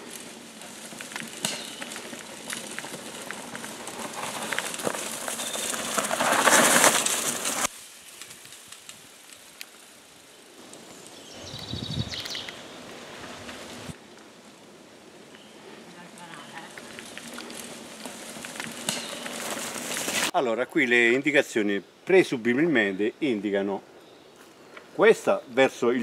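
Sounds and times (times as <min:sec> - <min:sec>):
bike tyres rolling over dry leaves: 0:00.0 - 0:21.2.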